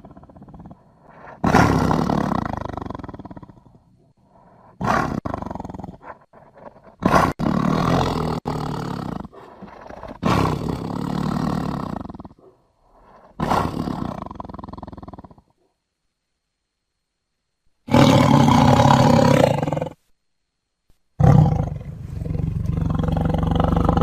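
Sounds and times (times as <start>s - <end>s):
tiger roaring: 0.0s - 3.8s, 4.8s - 15.4s, 17.9s - 20.0s, 21.2s - 24.0s.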